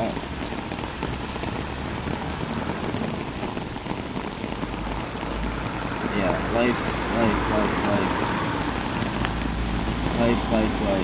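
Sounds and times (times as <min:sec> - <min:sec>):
close raindrops ticking: 0:00.0 - 0:11.0
steady rain hiss: 0:00.0 - 0:11.0.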